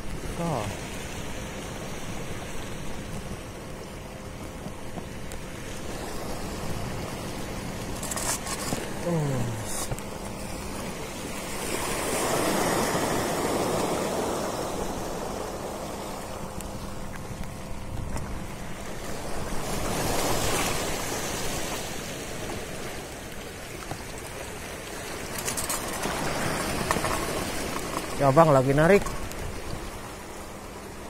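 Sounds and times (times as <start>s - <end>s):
sea waves washing against rocks: 0.0s - 31.0s.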